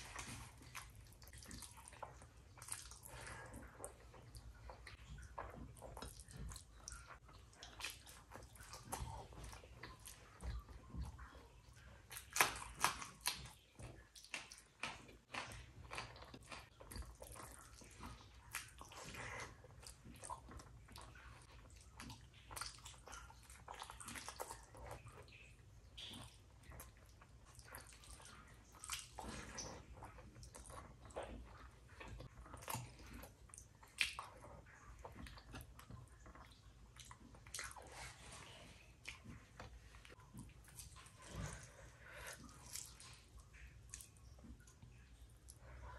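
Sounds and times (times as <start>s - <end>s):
person chewing wet mouth smacks: 0.0s - 45.9s.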